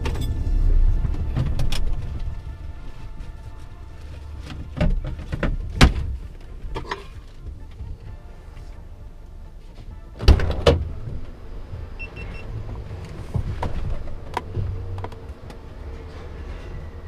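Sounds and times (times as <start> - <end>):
knocks and rattles: 0.0 - 8.2, 10.2 - 17.0
truck engine humming: 0.0 - 17.0.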